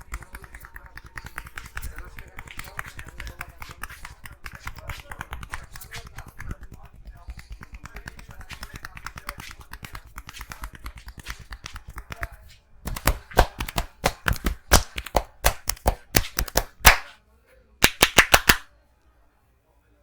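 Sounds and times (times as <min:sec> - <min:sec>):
hands slapping and tapping head: 0:00.0 - 0:17.2, 0:17.8 - 0:18.7.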